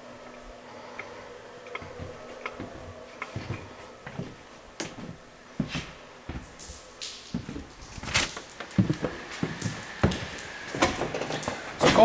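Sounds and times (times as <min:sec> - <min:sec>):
footsteps on a floor: 0:01.7 - 0:12.0.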